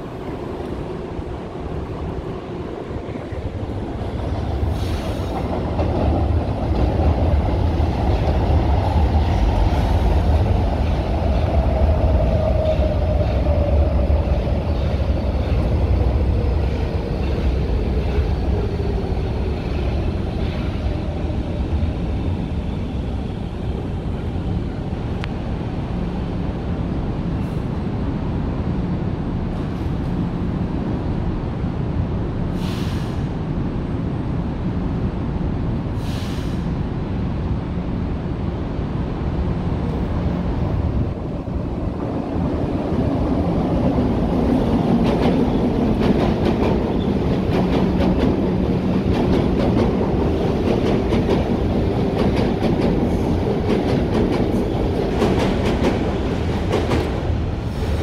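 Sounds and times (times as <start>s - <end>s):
metro train rumbling with falling whine: 0.0s - 58.0s.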